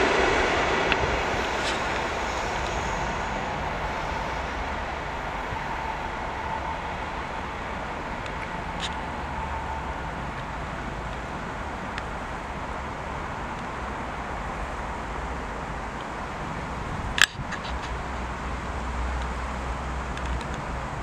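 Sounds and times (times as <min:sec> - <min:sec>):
distant trains rumbling: 0:00.0 - 0:21.0.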